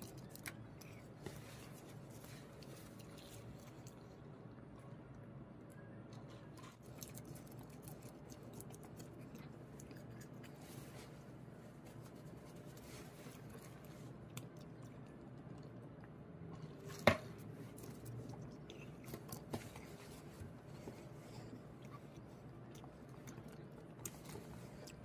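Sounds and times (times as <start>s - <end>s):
faint chewing: 0.0s - 25.0s
low room hum: 0.0s - 25.0s.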